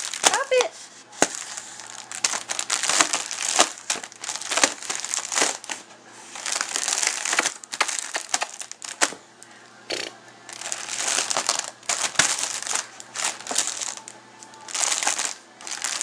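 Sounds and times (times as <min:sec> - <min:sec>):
bubble wrap crackling and popping: 0:00.0 - 0:09.2, 0:10.5 - 0:16.0.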